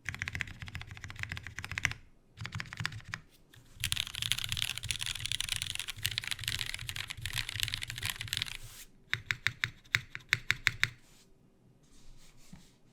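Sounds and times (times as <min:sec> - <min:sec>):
typing on mechanical keyboard: 0:00.0 - 0:11.0.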